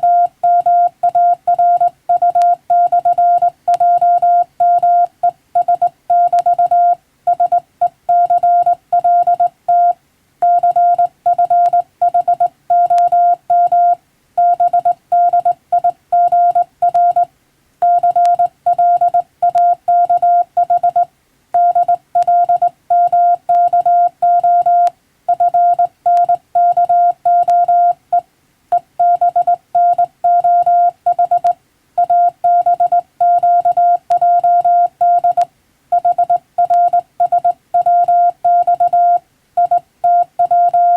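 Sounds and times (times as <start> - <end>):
morse code tone: 0.0 - 35.4, 36.0 - 40.9.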